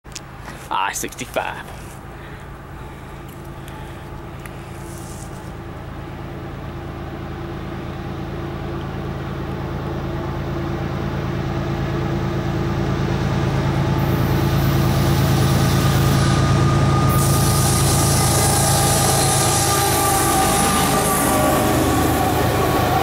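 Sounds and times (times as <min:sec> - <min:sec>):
diesel locomotive engines droning: 0:00.1 - 0:23.0.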